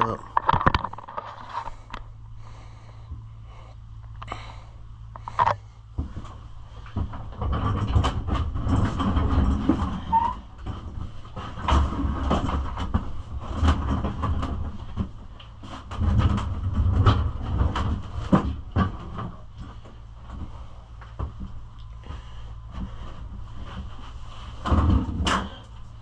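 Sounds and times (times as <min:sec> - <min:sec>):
handling knocks and rattles: 0:00.0 - 0:02.1, 0:05.2 - 0:26.0.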